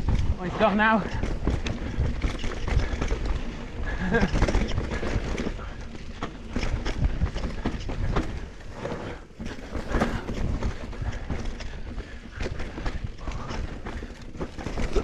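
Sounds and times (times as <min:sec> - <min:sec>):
mountain bike rattling over rough ground: 0:00.0 - 0:15.0.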